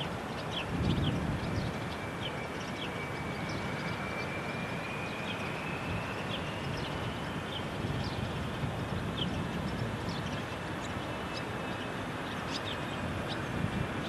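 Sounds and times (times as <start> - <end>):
distant jet engine rush and whine: 0.0 - 14.0.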